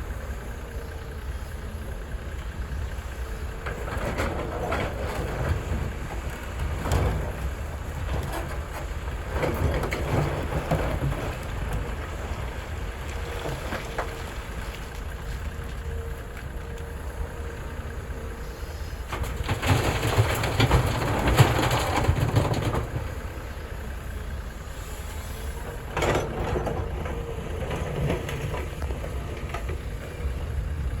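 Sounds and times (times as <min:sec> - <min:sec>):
diesel excavator rumbling: 0:00.0 - 0:31.0.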